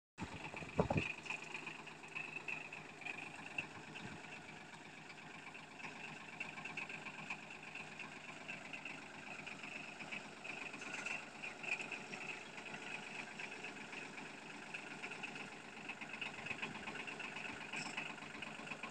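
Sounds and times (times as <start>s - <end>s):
tractor engine running: 0.2s - 18.9s.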